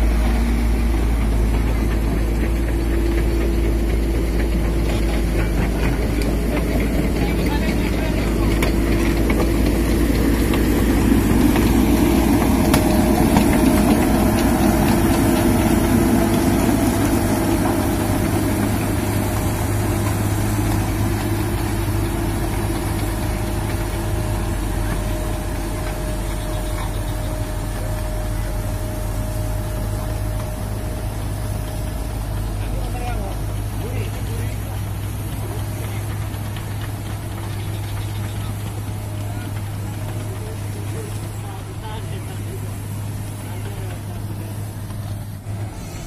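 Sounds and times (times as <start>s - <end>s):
heavy diesel engines under load: 0.0s - 46.0s.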